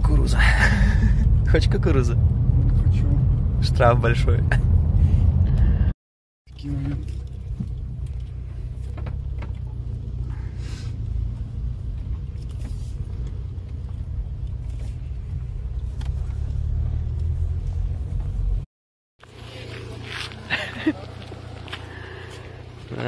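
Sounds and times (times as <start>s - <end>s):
car engine and tyre hum: 0.0s - 5.9s, 6.5s - 23.0s.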